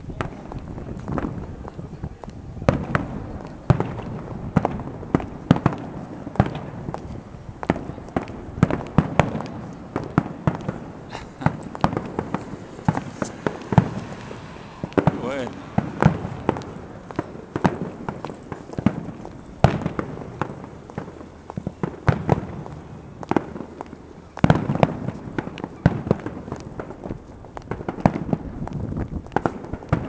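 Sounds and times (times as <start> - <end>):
aerial fireworks bangs and cracks: 0.2 - 1.5, 2.6 - 30.0.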